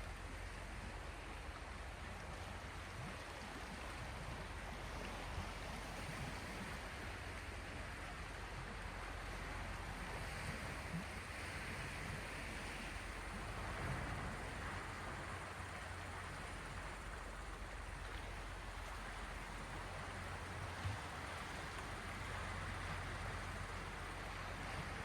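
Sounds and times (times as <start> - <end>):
sea waves washing on shore: 0.0 - 25.0.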